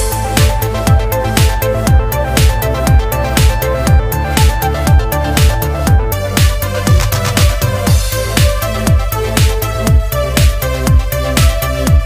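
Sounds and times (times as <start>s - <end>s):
electronic dance music: 0.0s - 12.0s
held synth melody: 0.0s - 12.0s
steady kick drum: 0.0s - 12.0s.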